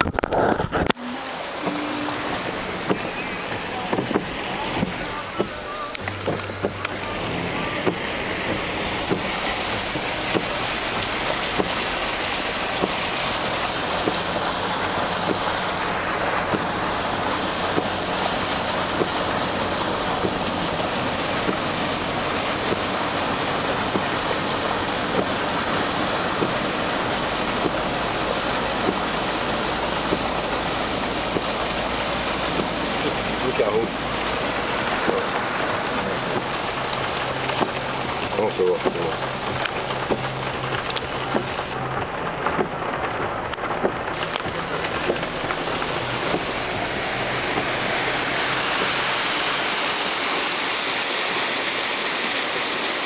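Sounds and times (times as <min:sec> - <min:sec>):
water rushing down a lane: 0:00.0 - 0:53.0.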